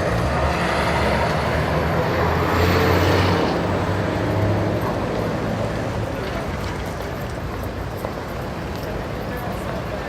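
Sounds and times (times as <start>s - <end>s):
city street traffic: 0.0s - 10.0s.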